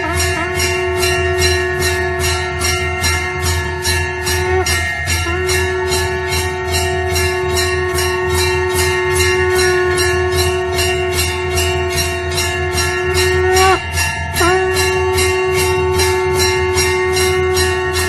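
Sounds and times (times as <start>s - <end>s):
conch shell blown: 0.0s - 18.0s
temple bell rung rapidly: 0.0s - 18.0s.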